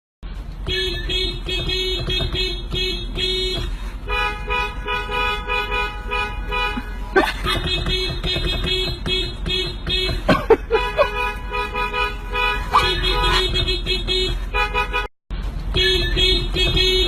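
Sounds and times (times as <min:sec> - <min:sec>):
electronic car horn toots: 0:00.6 - 0:15.1, 0:15.7 - 0:17.0.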